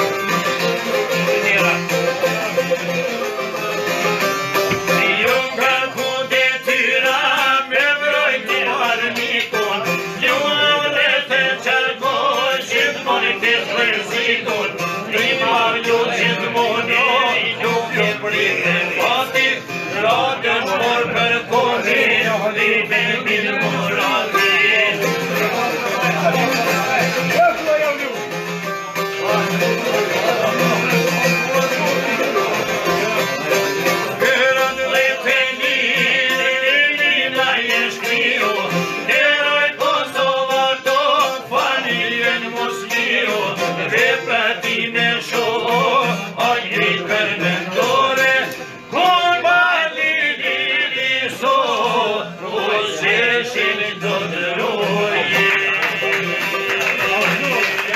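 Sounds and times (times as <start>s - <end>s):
plucked lutes playing: 0.0s - 57.9s
man singing: 0.4s - 28.2s, 29.0s - 57.9s.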